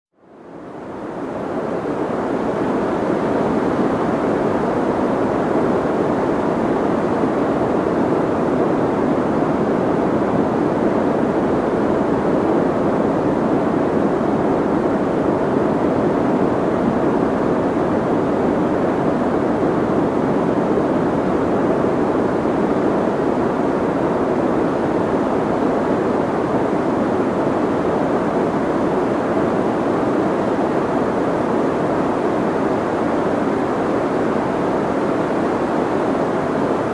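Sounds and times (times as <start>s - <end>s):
muffled white noise: 0.2s - 36.9s.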